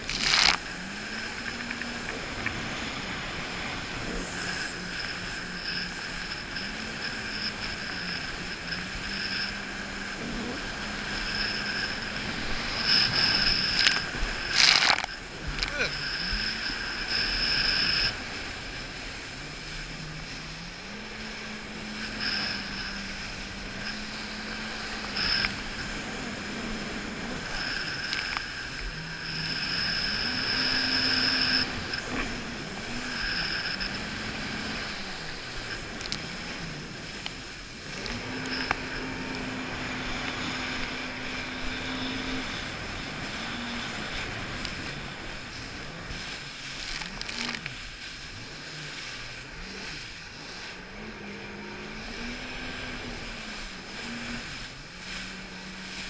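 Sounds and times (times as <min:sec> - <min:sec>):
jet ski engine revving: 0:00.0 - 0:56.0.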